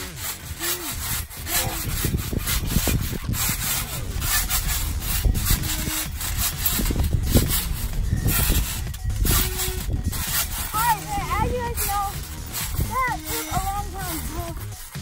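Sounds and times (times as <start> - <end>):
steady low rumble: 0.0 - 15.0
trampoline springs creaking: 0.0 - 15.0.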